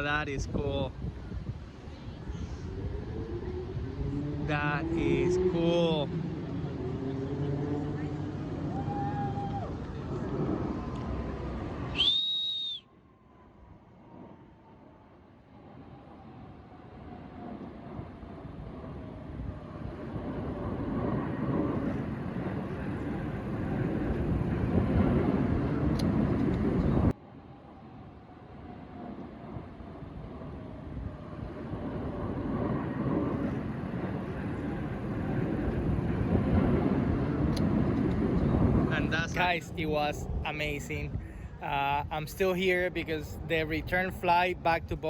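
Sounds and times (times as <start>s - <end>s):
jets passing overhead: 0.0s - 12.2s, 13.1s - 45.0s.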